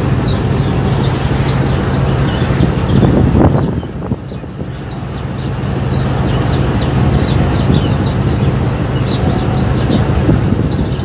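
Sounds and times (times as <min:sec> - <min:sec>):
boat engine hum: 0:00.0 - 0:11.0
wake water rushing: 0:00.0 - 0:11.0.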